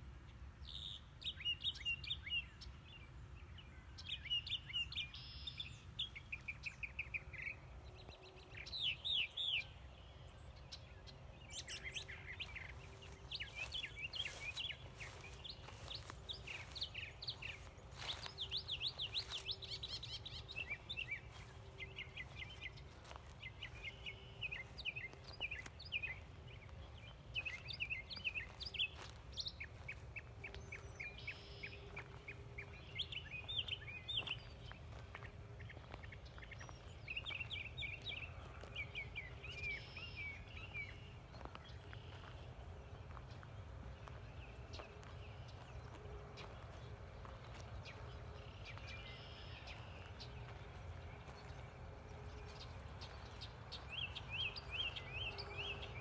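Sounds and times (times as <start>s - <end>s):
birds chirping and trilling: 0.7s - 56.0s.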